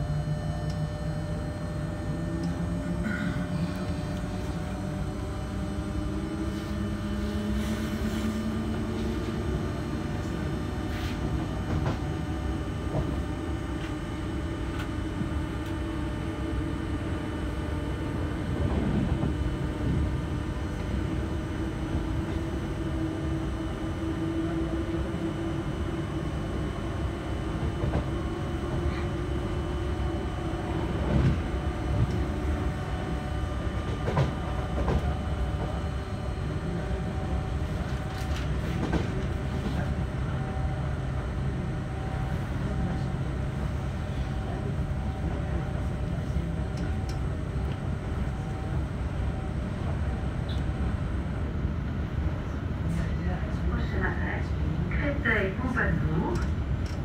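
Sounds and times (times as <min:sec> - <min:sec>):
wheels rumbling on rail: 0:00.0 - 0:53.9.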